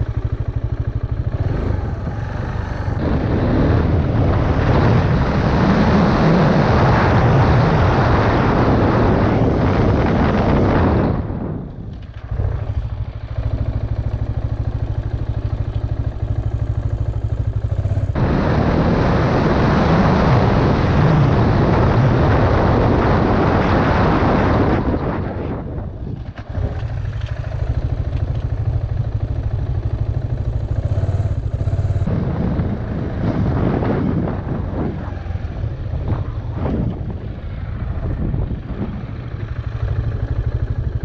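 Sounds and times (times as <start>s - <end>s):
motorcycle engine: 0.0s - 41.0s
rush of wind: 0.0s - 41.0s.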